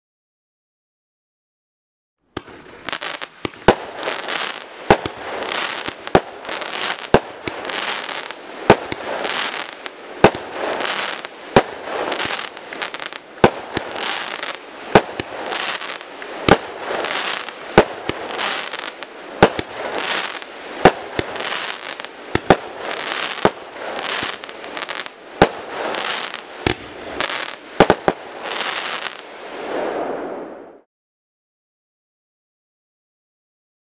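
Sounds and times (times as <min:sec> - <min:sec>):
firework crackling: 0:02.4 - 0:30.7
firework shots: 0:02.4 - 0:30.8.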